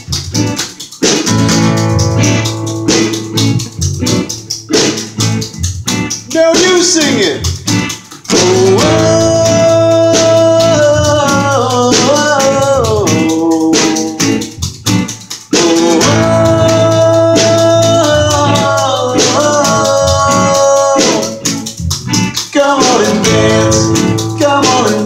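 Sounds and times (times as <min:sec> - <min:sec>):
guitar music: 0:00.0 - 0:25.0.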